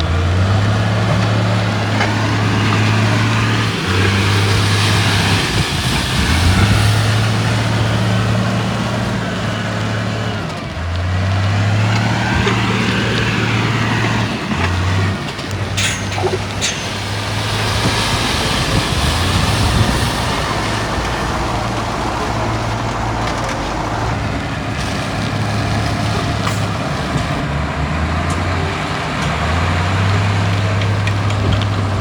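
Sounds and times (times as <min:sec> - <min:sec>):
diesel earthmoving machinery engine: 0:00.0 - 0:32.0.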